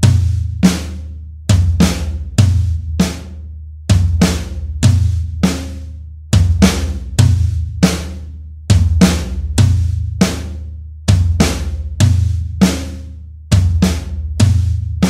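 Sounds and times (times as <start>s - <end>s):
electronic drum kit groove: 0.0s - 15.0s.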